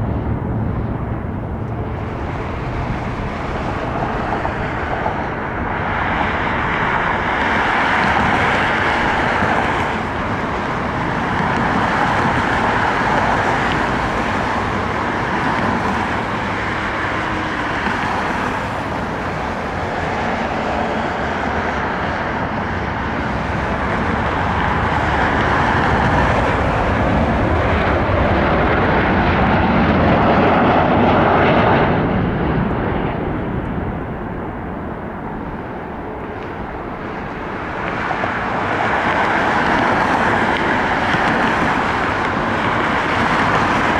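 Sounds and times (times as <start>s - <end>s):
jet engines rushing: 0.0s - 43.9s.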